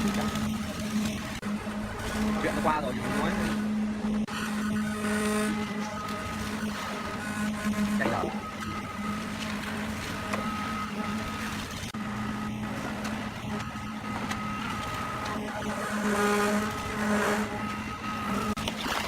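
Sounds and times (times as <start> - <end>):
engine humming: 0.0 - 19.0
machine noise: 0.0 - 19.0.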